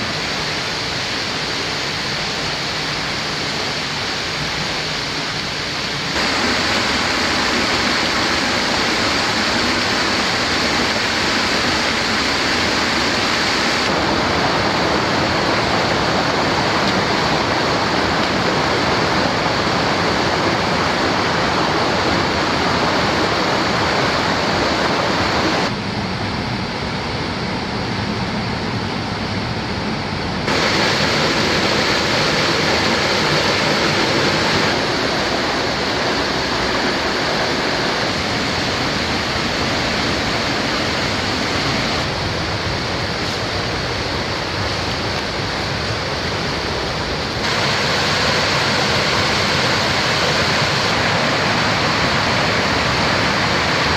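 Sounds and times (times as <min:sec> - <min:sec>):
water rushing: 0:00.0 - 0:53.9.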